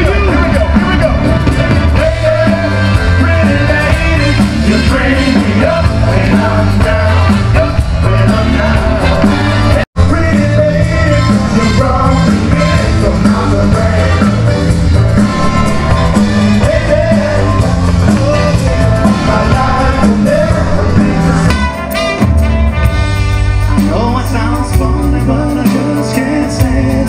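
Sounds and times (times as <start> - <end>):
lead singer singing: 0.0 - 21.8, 23.8 - 27.0
live band playing rock song: 0.0 - 27.0.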